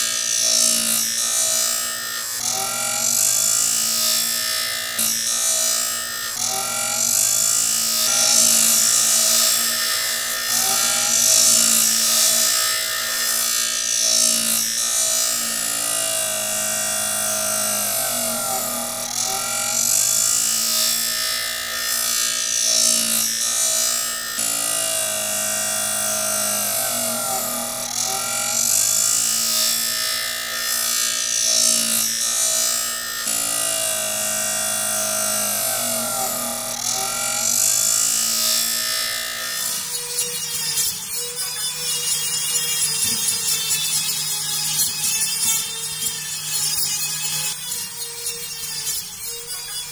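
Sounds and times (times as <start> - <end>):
wire brush drill scrubbing steel: 0.0 - 49.9.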